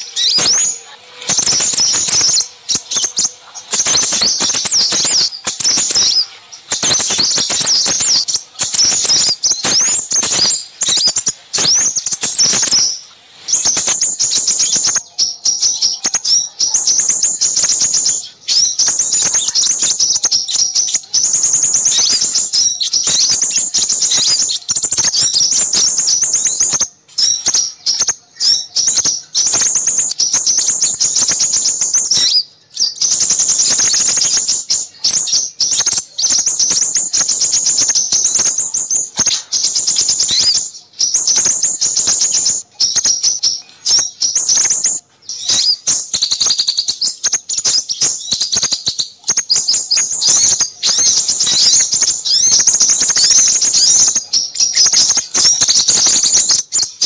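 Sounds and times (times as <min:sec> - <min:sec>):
small birds twittering: 0:00.0 - 0:57.0.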